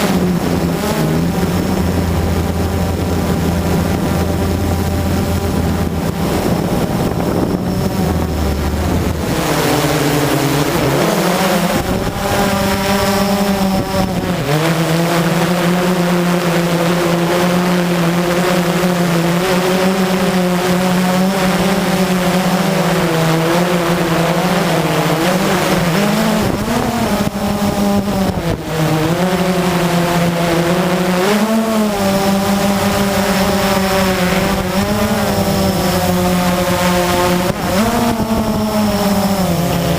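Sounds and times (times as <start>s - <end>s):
quadcopter buzzing hum: 0.0s - 39.9s.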